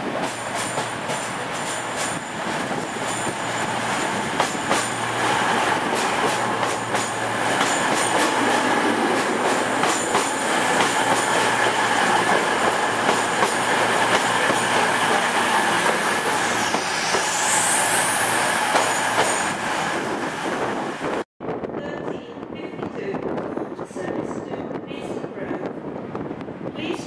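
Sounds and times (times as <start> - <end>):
electric train rumble and hum: 0.0 - 27.0.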